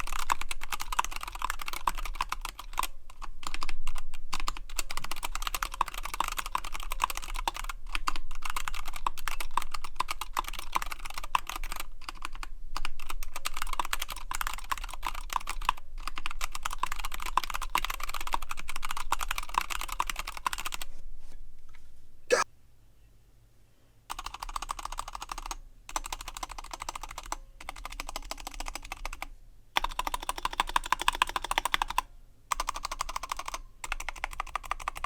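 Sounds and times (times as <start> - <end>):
fast typing on mechanical keyboard: 0.0 - 20.8, 24.1 - 35.0.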